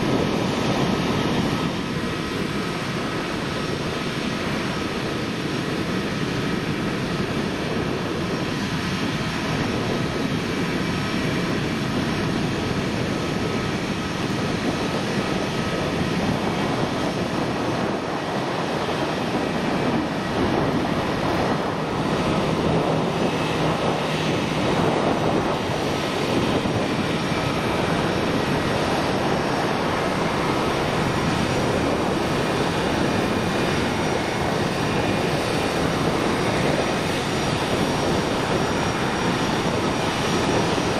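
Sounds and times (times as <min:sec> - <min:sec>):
jet engines taxiing: 0:00.0 - 0:40.9.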